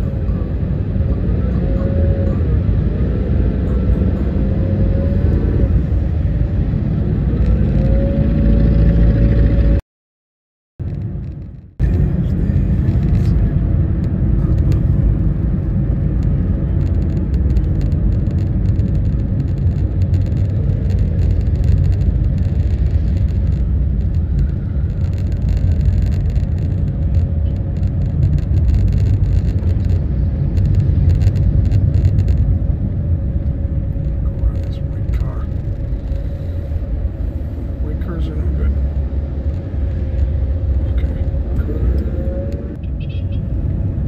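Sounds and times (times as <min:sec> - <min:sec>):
car engine and tyres rumbling: 0:00.0 - 0:09.8, 0:10.8 - 0:44.0.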